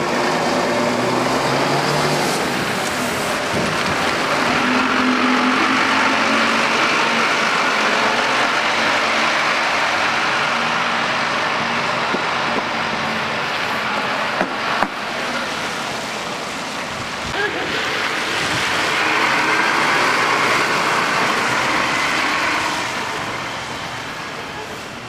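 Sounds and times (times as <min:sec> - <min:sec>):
bus engine humming: 0:00.0 - 0:25.0
tyres hissing on snowy road: 0:00.0 - 0:25.0.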